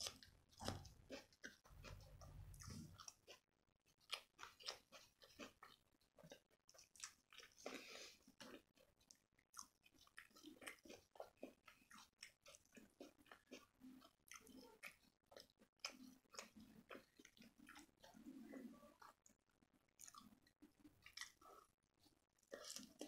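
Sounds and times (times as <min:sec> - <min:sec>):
quiet wet chewing: 0:00.0 - 0:23.0.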